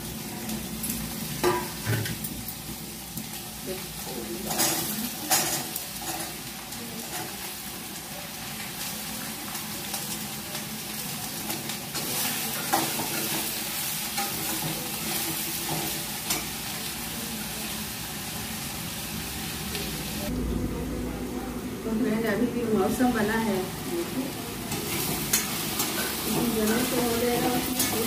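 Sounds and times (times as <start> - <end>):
food sizzling in a wok: 0.0 - 20.4, 21.8 - 28.0.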